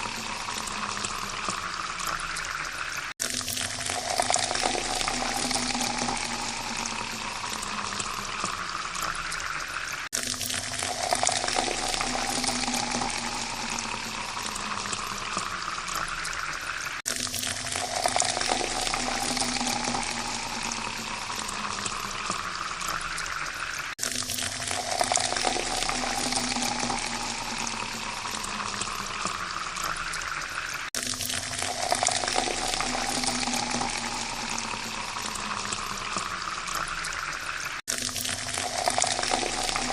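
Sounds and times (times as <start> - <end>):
water pouring into a glass: 0.0 - 39.9.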